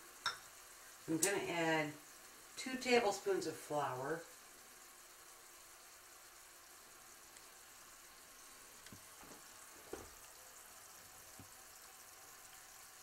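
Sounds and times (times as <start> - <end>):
pan sizzling: 0.0 - 13.0.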